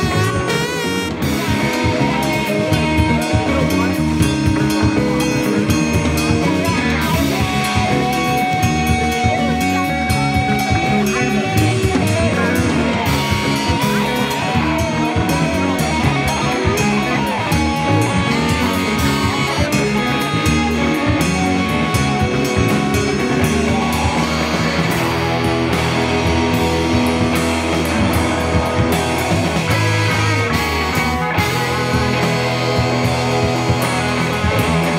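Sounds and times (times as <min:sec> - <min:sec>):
bass guitar: 0:00.0 - 0:34.9
drum kit: 0:00.0 - 0:34.9
electric guitars: 0:00.0 - 0:34.9.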